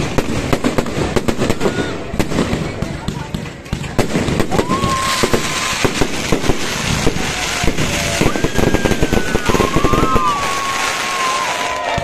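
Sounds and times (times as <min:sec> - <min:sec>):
fireworks crackling pops: 0:00.0 - 0:12.0.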